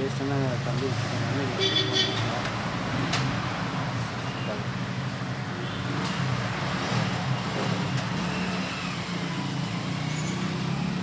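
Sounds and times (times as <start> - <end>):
engine and traffic rumble: 0.0 - 11.0.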